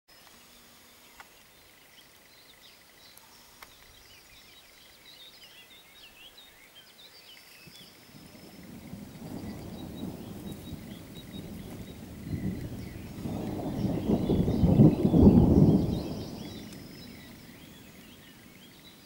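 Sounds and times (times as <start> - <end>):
faint birdsong chirps: 0.1 - 19.0.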